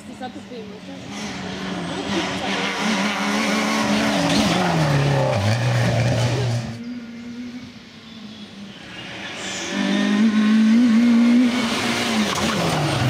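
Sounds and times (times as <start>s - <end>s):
rally car engine passing: 0.1s - 13.0s.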